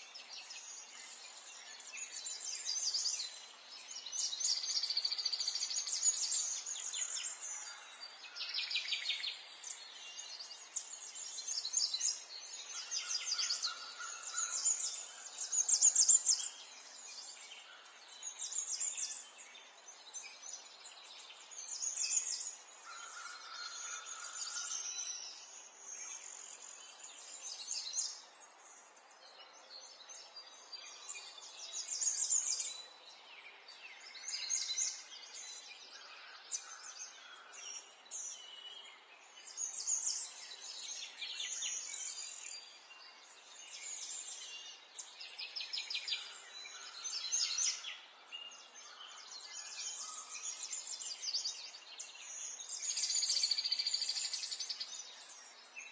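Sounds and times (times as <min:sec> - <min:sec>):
birds singing and chirping: 0:00.0 - 0:55.9.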